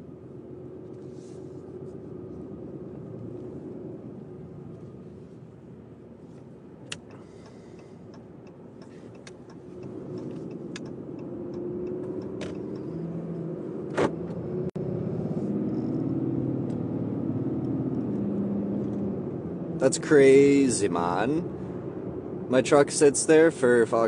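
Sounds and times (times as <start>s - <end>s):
truck engine and road rumble: 0.0s - 24.0s.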